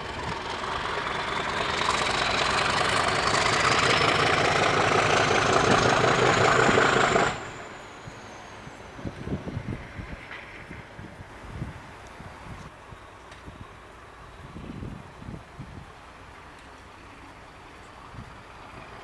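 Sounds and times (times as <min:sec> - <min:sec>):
diesel locomotive engine working hard: 0:00.0 - 0:19.0.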